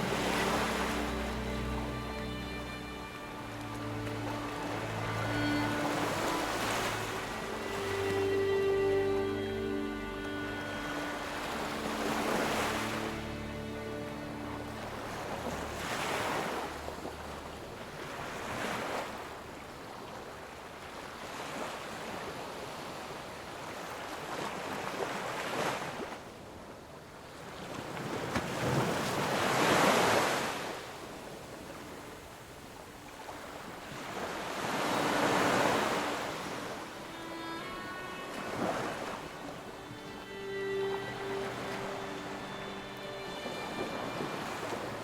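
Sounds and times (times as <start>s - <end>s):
ocean waves breaking on shore: 0.0s - 45.0s.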